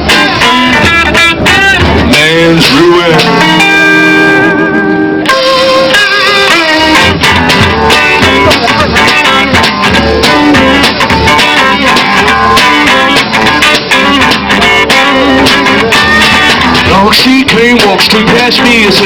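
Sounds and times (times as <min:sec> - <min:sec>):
bass and drum beat: 0:00.0 - 0:19.0
instrumental guitar passage: 0:00.0 - 0:19.0.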